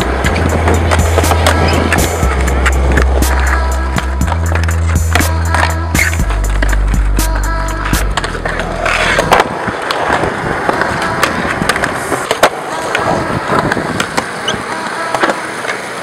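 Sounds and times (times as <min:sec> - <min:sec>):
skateboard clacking on ground: 0:00.0 - 0:16.0
skateboard wheels rolling on concrete: 0:00.0 - 0:16.0.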